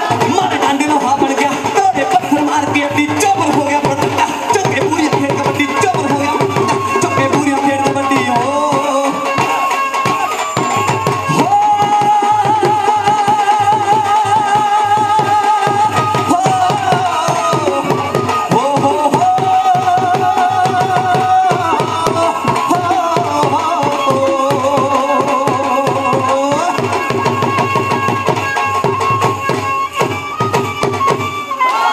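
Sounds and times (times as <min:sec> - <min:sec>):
fast hand-drum strokes: 0:00.0 - 0:31.9.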